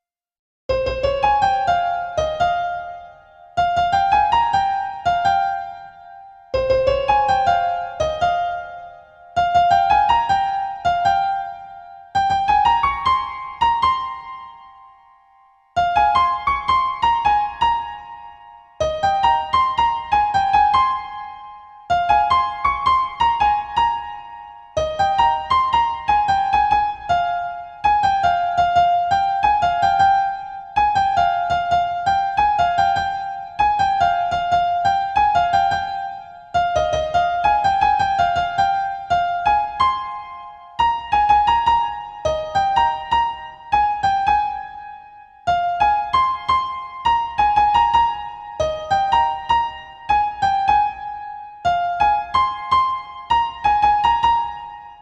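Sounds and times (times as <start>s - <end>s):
electric piano melody: 0.7s - 55.0s.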